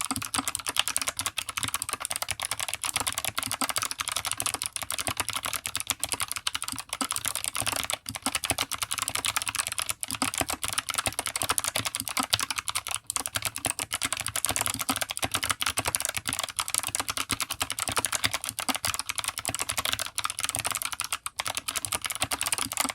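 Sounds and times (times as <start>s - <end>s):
mechanical keyboard typing: 0.0s - 22.9s.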